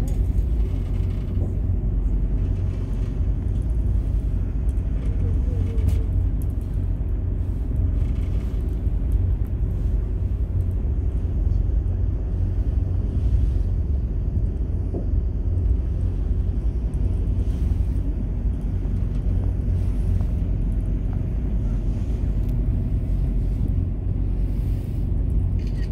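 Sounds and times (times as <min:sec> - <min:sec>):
boat engine rumble: 0:00.0 - 0:25.9
boat rushing through water: 0:00.0 - 0:25.9.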